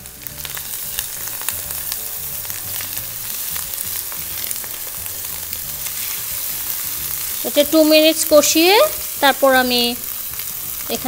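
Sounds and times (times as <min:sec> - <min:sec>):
spice paste sizzling in hot oil: 0:00.0 - 0:11.0
spatula stirring and scraping pan: 0:00.4 - 0:10.9.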